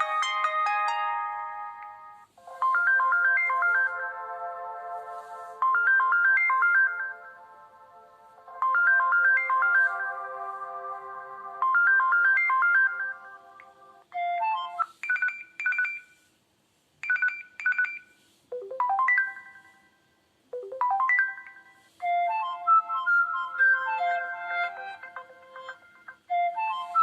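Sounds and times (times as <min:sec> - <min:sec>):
electronic ringtone melody: 0:00.0 - 0:16.3, 0:17.0 - 0:27.0.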